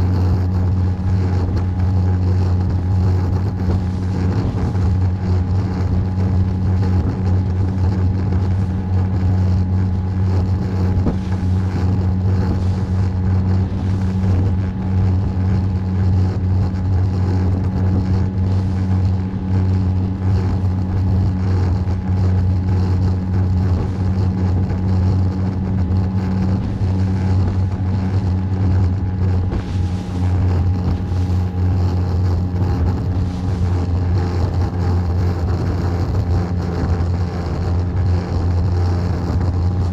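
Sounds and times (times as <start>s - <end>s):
boat motor humming: 0.0s - 39.9s.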